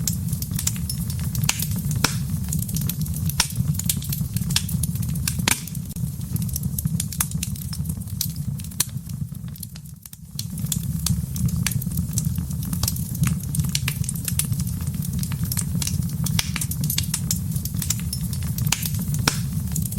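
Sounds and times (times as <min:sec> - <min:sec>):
low fire rumble: 0:00.0 - 0:19.9
wood fire crackling: 0:00.0 - 0:19.9.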